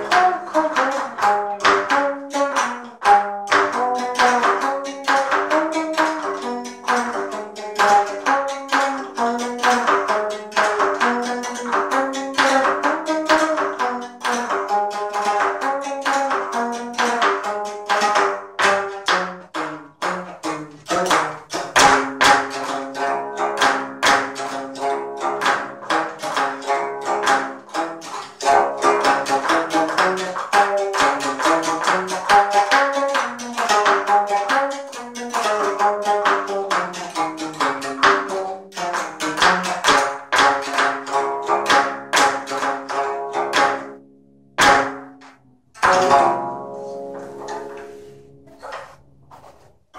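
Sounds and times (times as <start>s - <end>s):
plucked zither notes: 0.0s - 49.6s.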